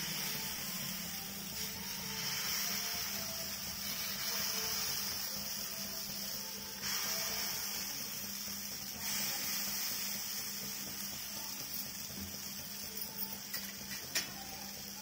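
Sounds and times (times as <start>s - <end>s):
batter sizzling in oil: 0.0s - 15.0s.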